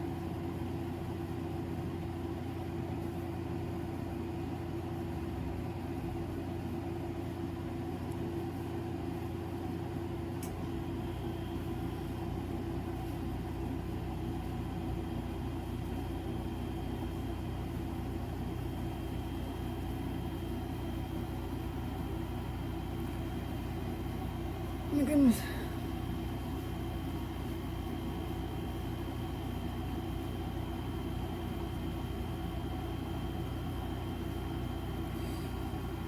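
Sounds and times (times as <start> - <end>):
air conditioner humming: 0.0 - 36.0.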